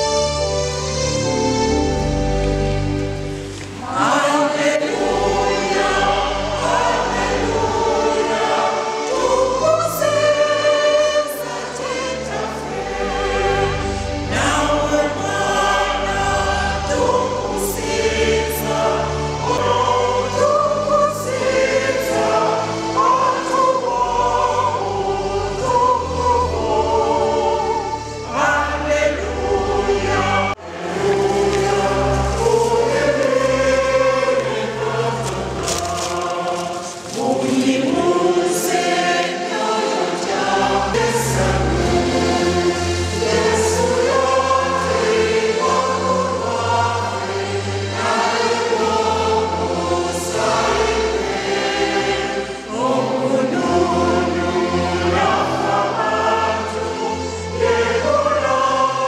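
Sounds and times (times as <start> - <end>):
choir singing a hymn: 0.0 - 59.0
low musical accompaniment: 0.0 - 59.0.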